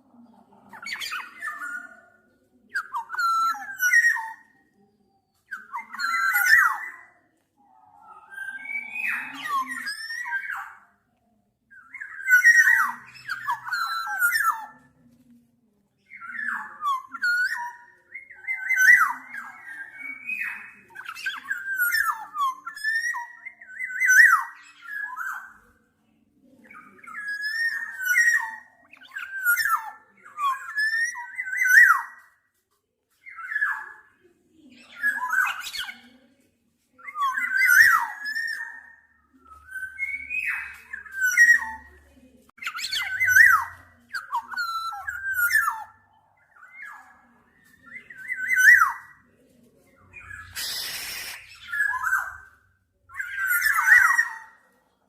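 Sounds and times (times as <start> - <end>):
oriole whistled calls: 0.0 - 7.3, 8.0 - 11.1, 11.7 - 15.0, 16.1 - 25.8, 26.6 - 32.4, 37.0 - 42.0, 42.6 - 49.3, 49.9 - 54.6.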